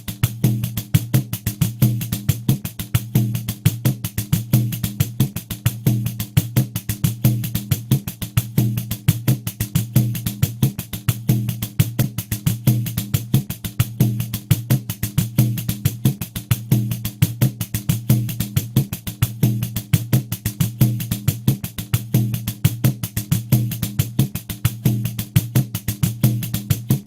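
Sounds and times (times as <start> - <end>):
pandeiro drum head tones: 0.0 - 27.0.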